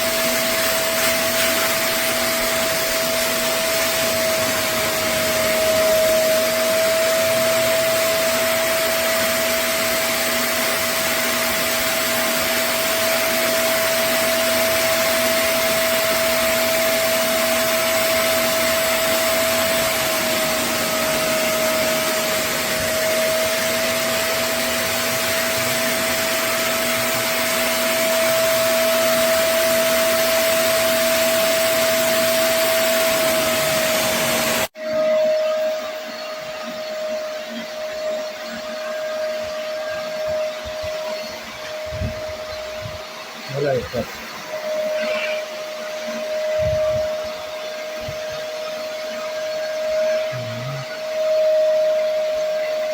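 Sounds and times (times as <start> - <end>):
spot cleaner suction and motor whine: 0.0 - 52.9.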